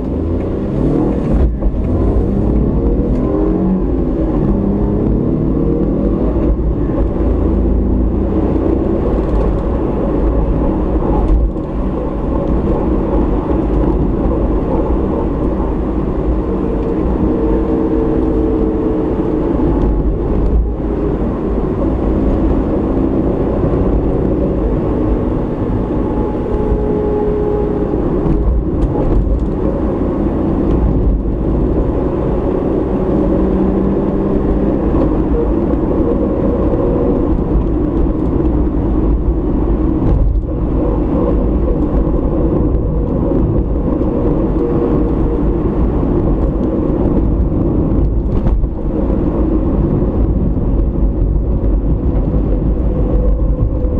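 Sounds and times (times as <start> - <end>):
road and tyre noise: 0.0 - 53.9.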